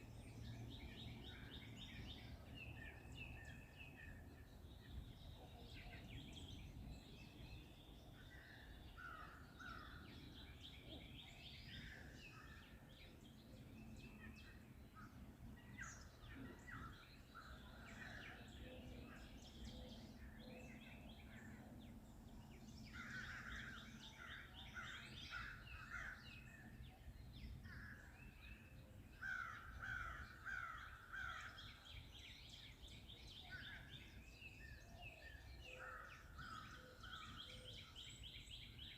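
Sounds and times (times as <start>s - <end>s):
faint forest birds singing: 0.0s - 38.9s.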